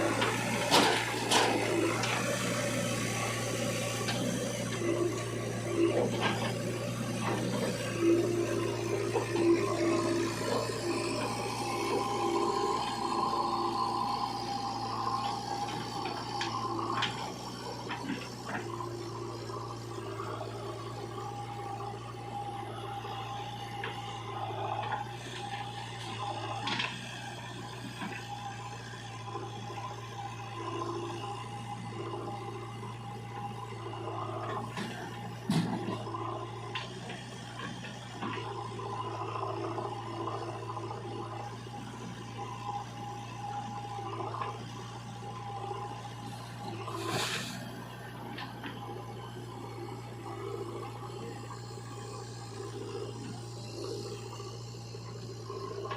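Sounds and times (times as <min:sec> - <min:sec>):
diesel engines running under load: 0:00.0 - 0:55.9.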